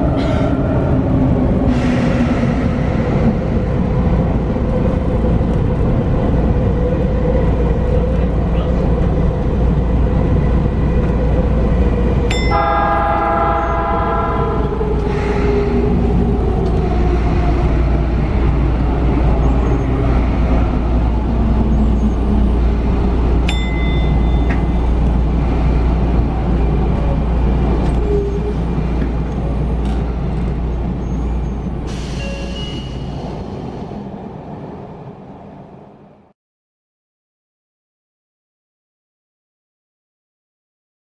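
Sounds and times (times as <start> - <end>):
train rumbling on rails: 0.0 - 36.4.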